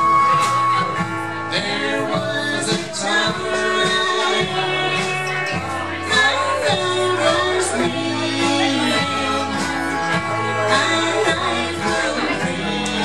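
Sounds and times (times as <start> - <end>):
drums: 0.0 - 13.0
guitar: 0.0 - 13.0
harmonica: 0.0 - 13.0
steel guitar: 0.0 - 13.0
upright bass: 0.0 - 13.0
woman singing: 1.6 - 13.0.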